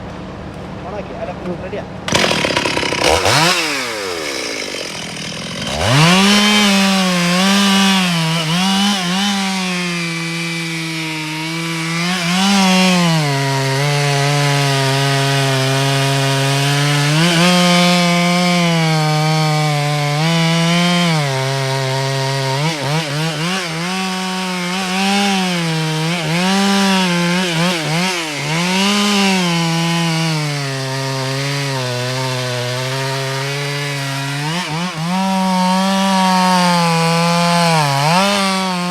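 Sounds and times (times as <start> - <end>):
chainsaw cutting wood: 2.1 - 38.9.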